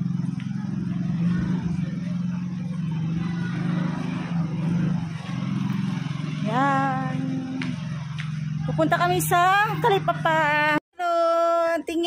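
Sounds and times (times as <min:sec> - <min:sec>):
small motorcycle engine humming: 0:00.0 - 0:10.8.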